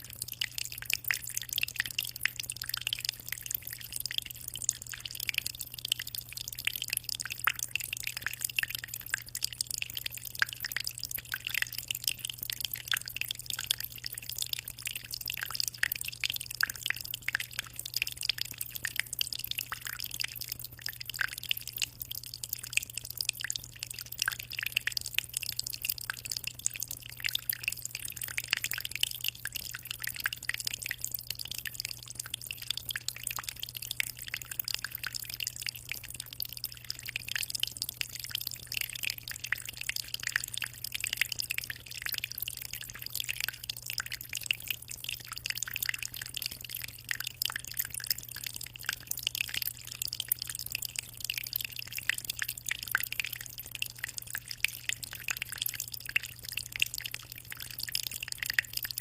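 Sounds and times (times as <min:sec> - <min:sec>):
aquarium water trickling and bubbling: 0:00.0 - 0:59.0.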